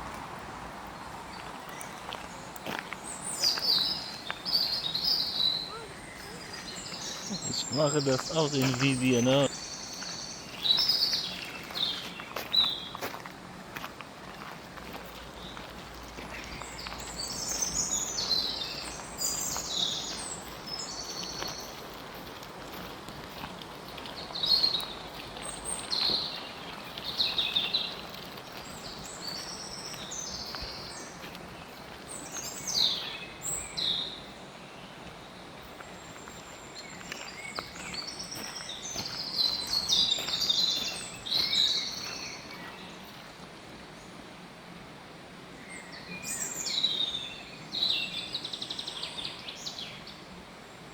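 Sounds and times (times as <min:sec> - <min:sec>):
songbirds chirping and trilling: 0:00.8 - 0:44.4, 0:45.4 - 0:50.9.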